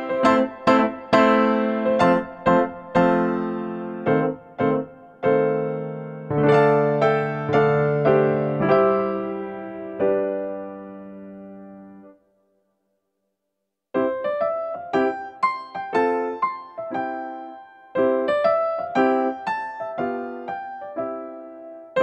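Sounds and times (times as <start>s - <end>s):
electric piano notes and chords: 0.0s - 12.2s, 14.0s - 22.0s.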